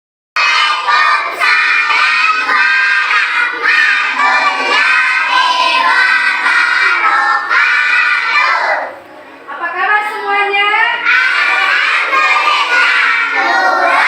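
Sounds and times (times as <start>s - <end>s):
children singing together: 0.4s - 9.0s, 11.0s - 14.0s.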